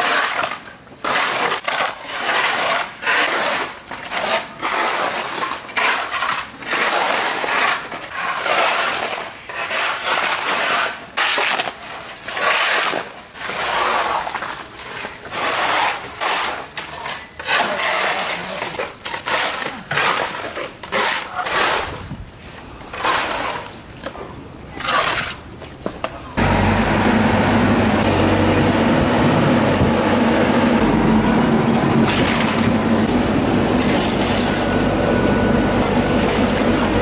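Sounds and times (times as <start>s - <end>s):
shovel scraping mud on asphalt: 0.0s - 26.5s, 32.0s - 37.0s.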